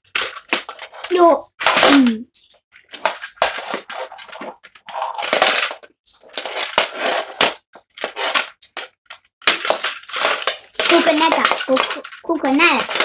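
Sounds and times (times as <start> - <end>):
plastic toys clattering: 0.0 - 13.0.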